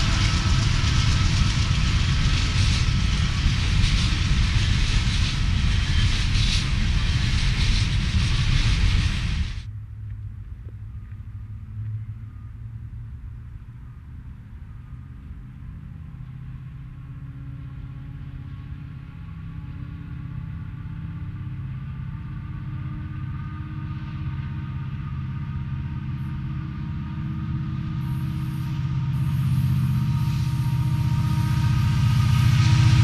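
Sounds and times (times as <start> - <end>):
diesel locomotives droning: 0.0 - 33.0.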